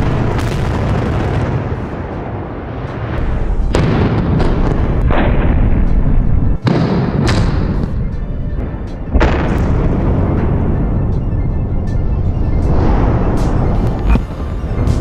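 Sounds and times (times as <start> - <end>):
explosive blasts with rumble: 0.0 - 15.0.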